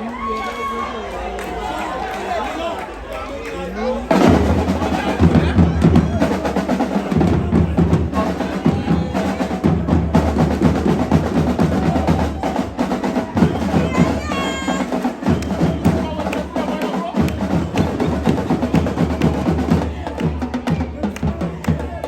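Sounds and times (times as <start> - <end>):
drum line playing snare and bass: 4.1 - 22.0.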